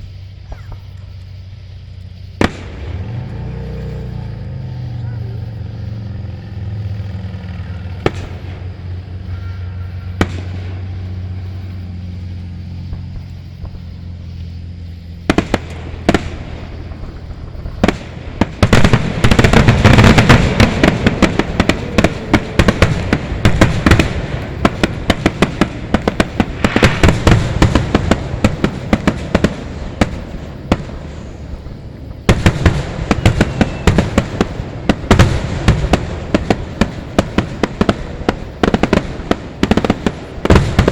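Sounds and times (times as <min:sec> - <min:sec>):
steady low hum: 0:00.0 - 0:40.8
fireworks bangs and crackles: 0:00.0 - 0:40.9.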